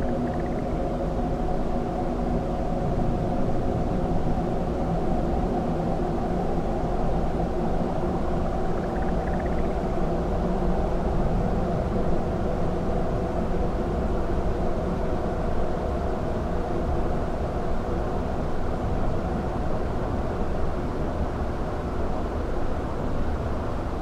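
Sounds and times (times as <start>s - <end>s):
dark ambient drone: 0.0s - 24.0s.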